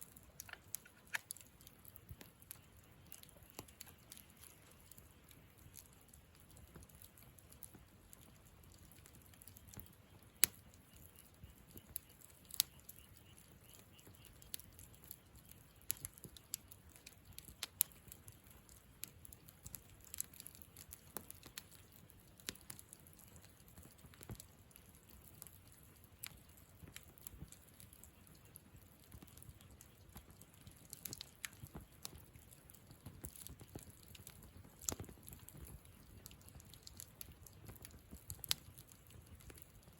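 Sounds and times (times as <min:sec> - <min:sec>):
campfire crackling and popping: 0:00.0 - 0:39.9
low steady hiss: 0:00.0 - 0:39.9.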